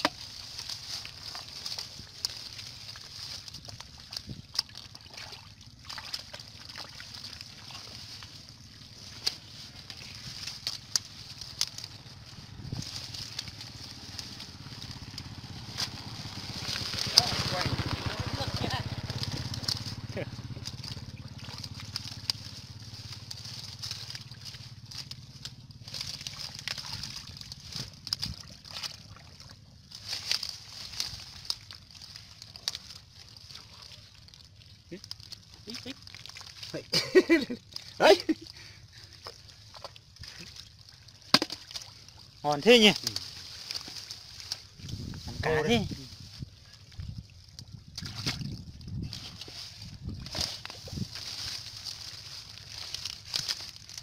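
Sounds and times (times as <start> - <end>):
hands sloshing in mud and water: 0.0 - 54.0.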